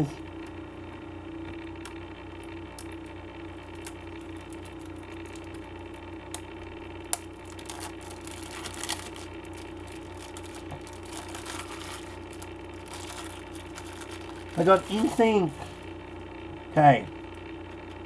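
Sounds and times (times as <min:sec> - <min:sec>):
steady low hum: 0:00.0 - 0:18.0
plastic packaging crinkling: 0:01.8 - 0:16.4.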